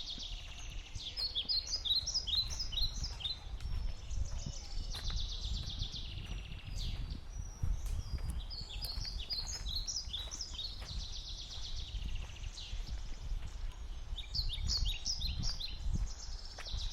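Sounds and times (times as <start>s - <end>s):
songbirds singing: 0.0s - 16.9s.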